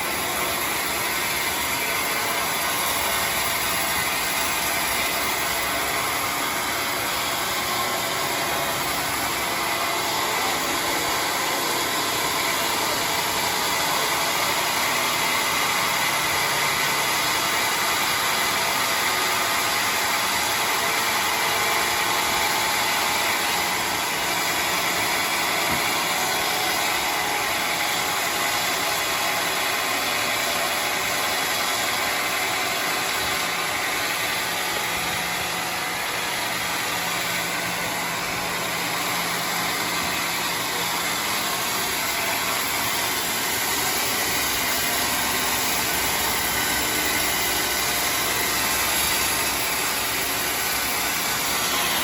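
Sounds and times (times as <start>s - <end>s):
sawmill machinery running: 0.0s - 52.0s.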